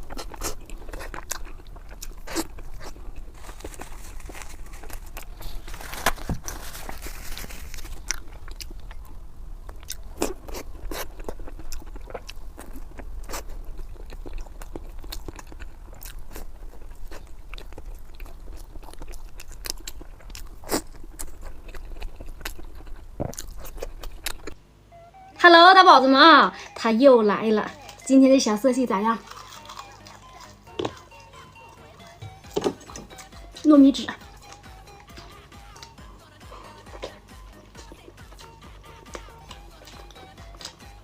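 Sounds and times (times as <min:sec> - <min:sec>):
person eating crunchy food: 0:00.0 - 0:24.6, 0:29.2 - 0:33.6, 0:34.2 - 0:41.0.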